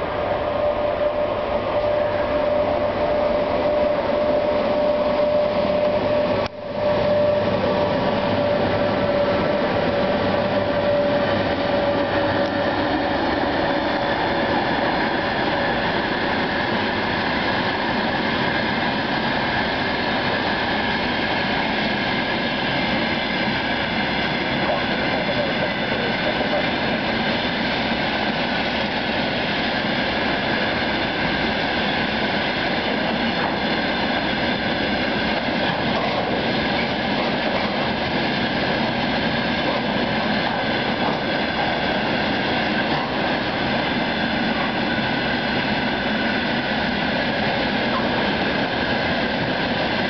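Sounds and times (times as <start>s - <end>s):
freight train rumbling over rails: 0.0s - 50.0s.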